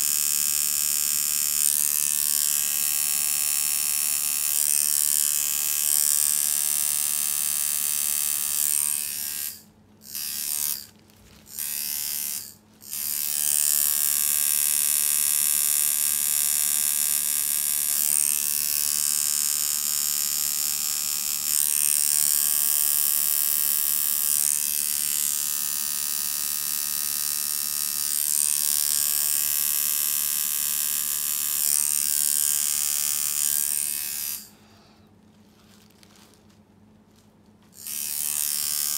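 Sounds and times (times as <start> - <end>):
tattoo machine buzzing: 0.0 - 10.9, 11.5 - 34.6, 37.8 - 38.9.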